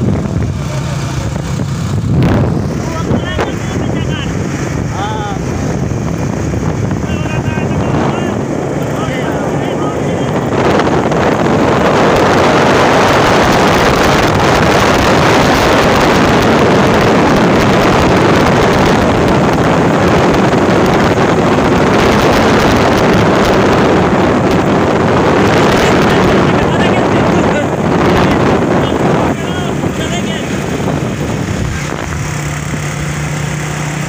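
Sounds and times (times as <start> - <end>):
motorcycle engine running: 0.0 - 34.0
wind rushing over microphone: 0.0 - 34.0.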